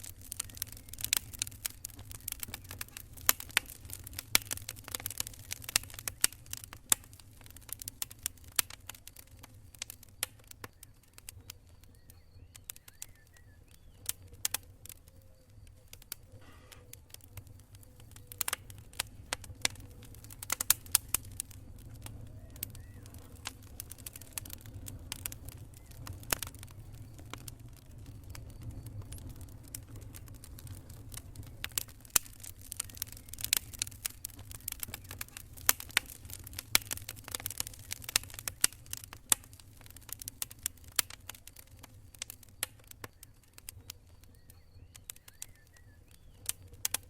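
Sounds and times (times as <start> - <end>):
campfire crackling: 0.0 - 47.0.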